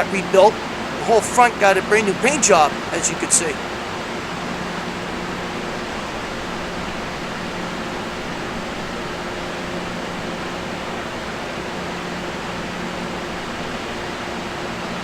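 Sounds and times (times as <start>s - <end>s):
train blowers hissing and humming: 0.0s - 15.0s.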